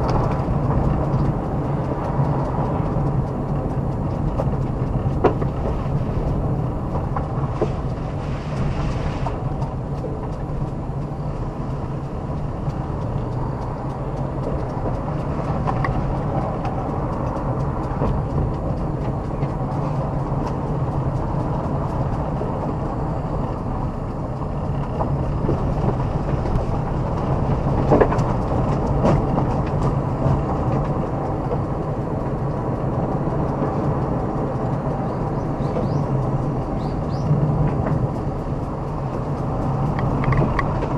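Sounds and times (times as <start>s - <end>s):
car engine and tyre hum: 0.0s - 40.9s.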